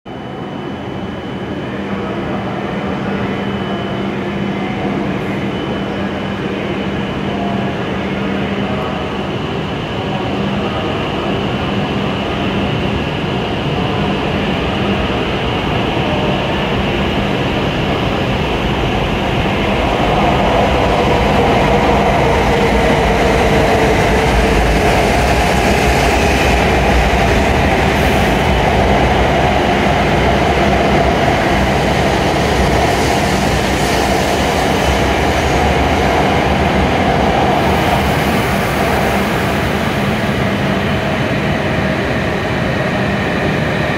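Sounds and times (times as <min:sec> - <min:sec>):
train running noise: 0:00.1 - 0:43.9
train whine: 0:00.1 - 0:43.9.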